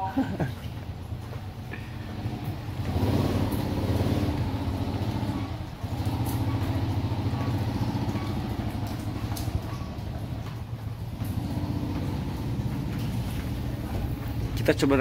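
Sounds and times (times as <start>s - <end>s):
small motorcycle engine running: 2.0s - 14.5s.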